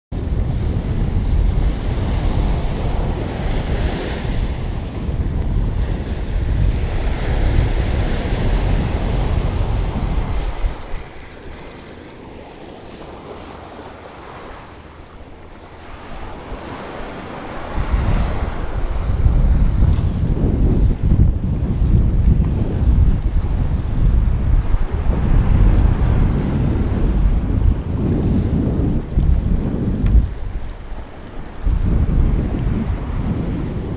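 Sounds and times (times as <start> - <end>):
wind buffeting microphone: 0.1 - 33.9
ocean surf on beach: 0.2 - 33.9.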